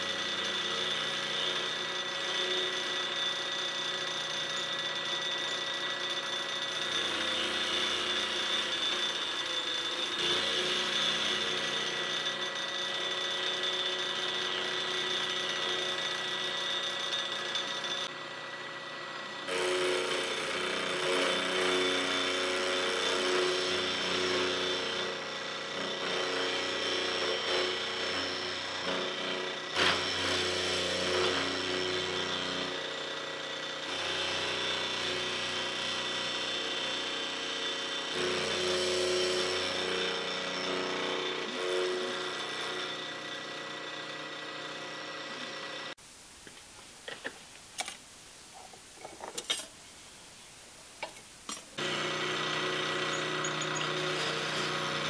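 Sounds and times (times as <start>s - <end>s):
milling machine cutting metal: 0.0s - 45.9s, 51.8s - 55.0s.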